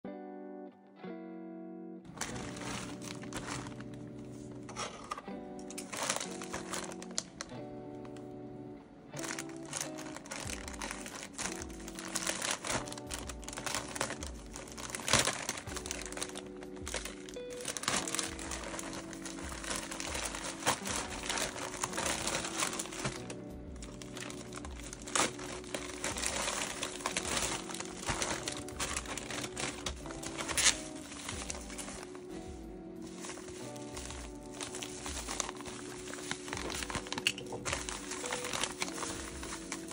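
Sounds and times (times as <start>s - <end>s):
bag tearing open: 2.1s - 8.2s, 9.2s - 39.9s
plastic mailer bag crinkling: 2.1s - 8.3s, 9.2s - 39.9s.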